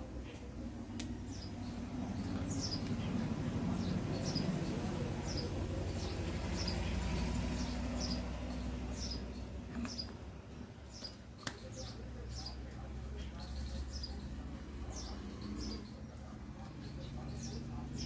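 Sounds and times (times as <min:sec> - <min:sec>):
small bird chirping: 0:01.0 - 0:18.0.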